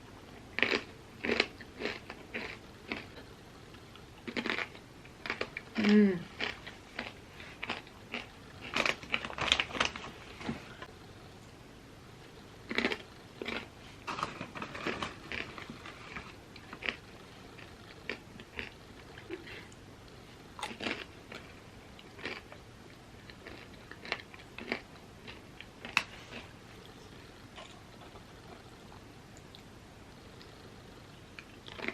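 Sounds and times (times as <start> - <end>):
crunchy chewing of chips: 0.3 - 10.3, 12.6 - 31.9.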